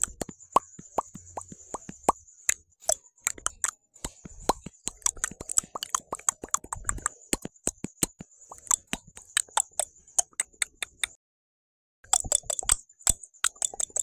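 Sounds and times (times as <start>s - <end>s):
mouth clicks and pops: 0.0s - 11.2s, 12.0s - 14.0s.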